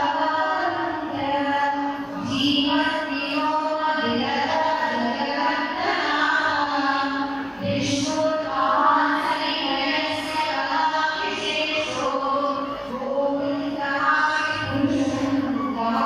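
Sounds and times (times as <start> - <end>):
group devotional chanting: 0.0 - 16.0.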